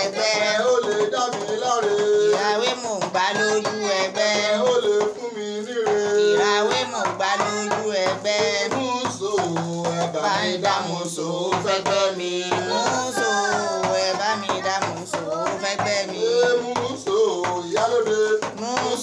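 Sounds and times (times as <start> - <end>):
hand drum strokes: 0.0 - 19.0
person singing: 0.0 - 19.0.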